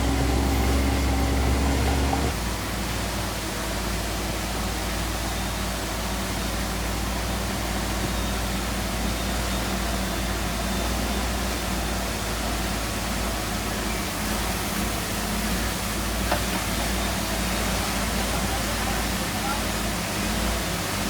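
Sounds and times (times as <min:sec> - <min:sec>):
diesel machinery engine drone: 0:00.0 - 0:21.0.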